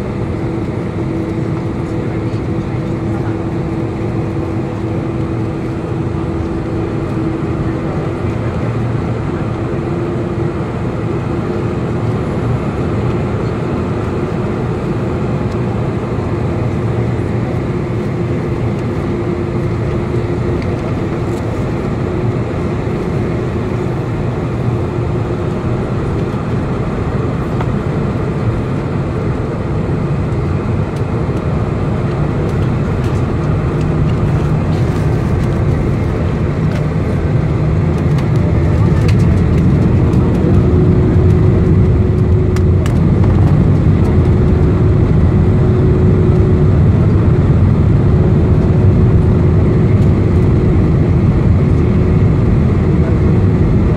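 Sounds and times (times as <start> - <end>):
jet engines rushing: 0.0 - 53.9
lower engine hum: 0.0 - 53.9
steady engine hum: 0.0 - 53.9.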